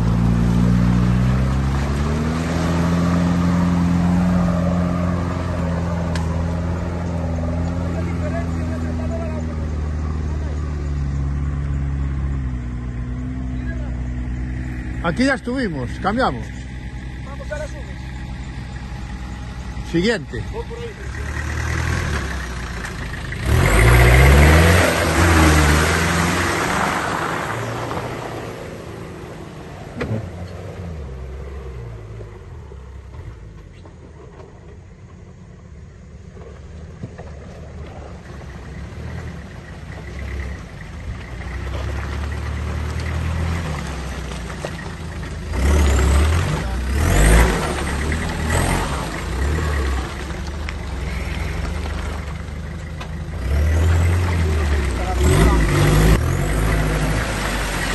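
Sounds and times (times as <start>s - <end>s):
engine revving: 0.0s - 33.1s, 37.2s - 57.9s.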